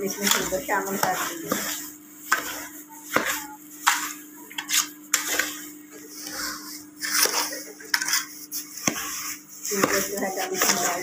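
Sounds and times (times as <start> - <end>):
steel ladle scraping a pot: 0.0 - 11.0.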